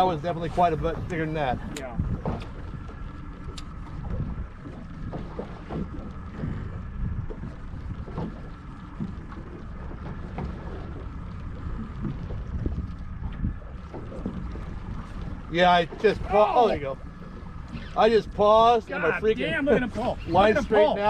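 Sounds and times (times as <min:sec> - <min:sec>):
water around a boat: 0:00.0 - 0:21.0
wind: 0:00.0 - 0:21.0.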